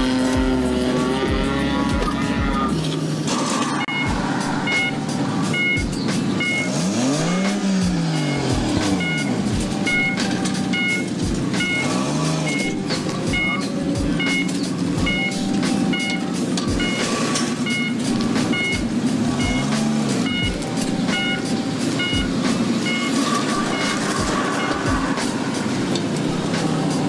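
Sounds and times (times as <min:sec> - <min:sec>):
car engine revving: 0:00.0 - 0:27.0
car electronic warning beep: 0:02.0 - 0:02.8, 0:03.4 - 0:25.3.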